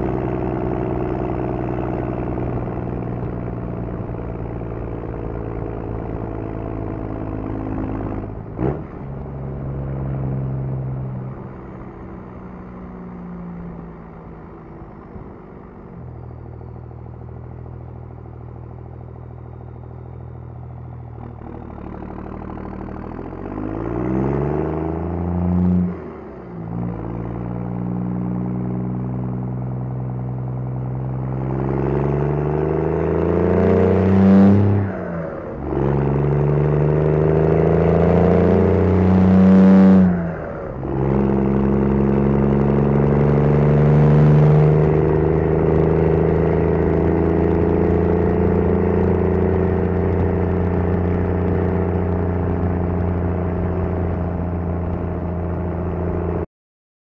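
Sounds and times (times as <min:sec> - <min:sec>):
diesel engine revving through gears: 0:00.0 - 0:56.5.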